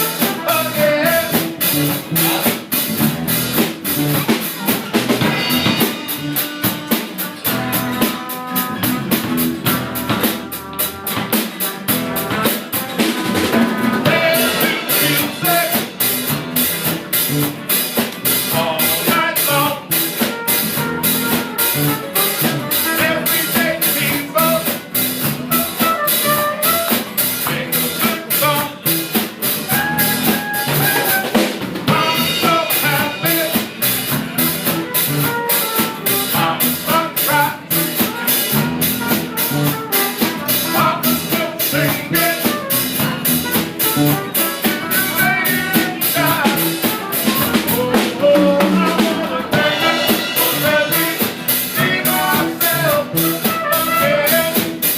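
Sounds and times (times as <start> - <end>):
drum kit steady beat: 0.0 - 54.9
live rock band playing: 0.0 - 54.9.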